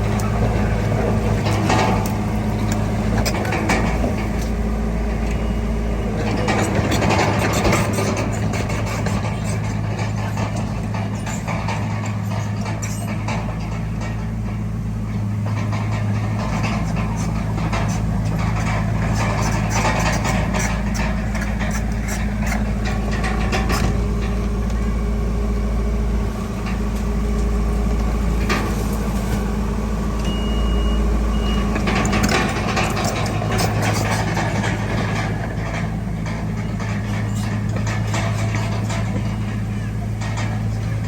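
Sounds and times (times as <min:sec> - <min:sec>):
bulldozer diesel engine: 0:00.0 - 0:41.0
steel tracks clanking: 0:00.0 - 0:41.0.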